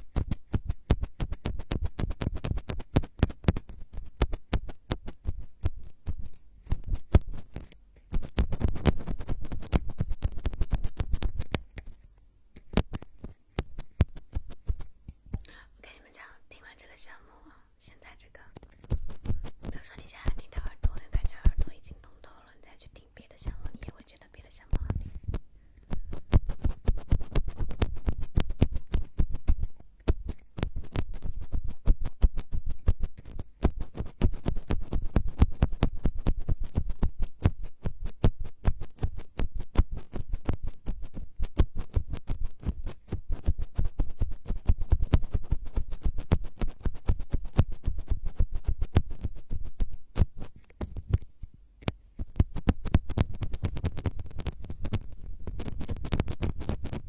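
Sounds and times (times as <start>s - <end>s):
scratching and tapping on microphone: 0.0s - 17.2s, 17.9s - 57.0s.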